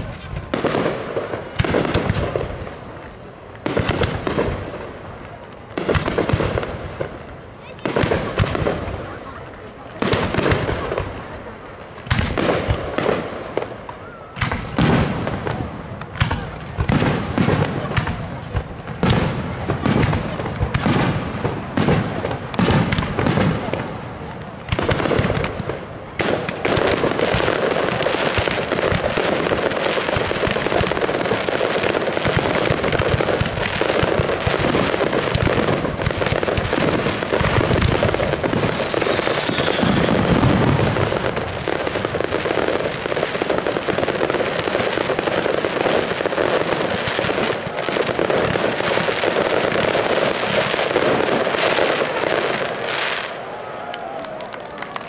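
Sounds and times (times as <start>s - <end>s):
fireworks bursts and crackling: 0.0s - 55.0s.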